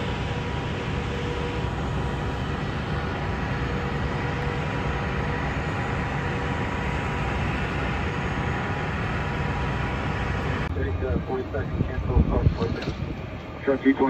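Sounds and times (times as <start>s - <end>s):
diesel engines rumbling: 0.0s - 14.0s
faint steady whine: 0.0s - 14.0s.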